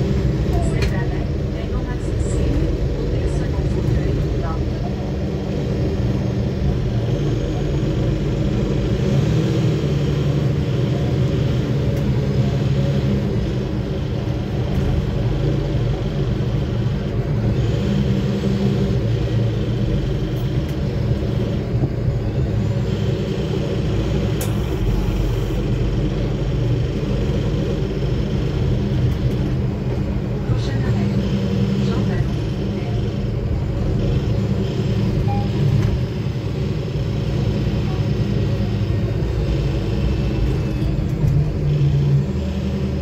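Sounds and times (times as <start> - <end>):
bus engine droning: 0.0 - 43.0
road rumble: 0.0 - 43.0.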